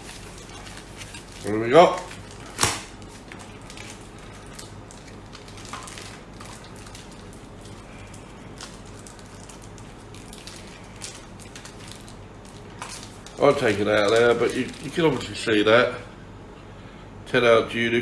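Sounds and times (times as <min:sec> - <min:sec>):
packaging small clicks and rustles: 0:00.0 - 0:15.3.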